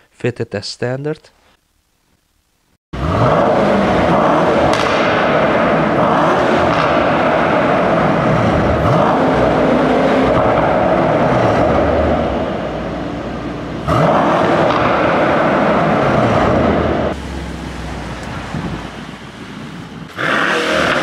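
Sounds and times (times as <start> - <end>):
loud car engine revving: 3.0 - 21.0.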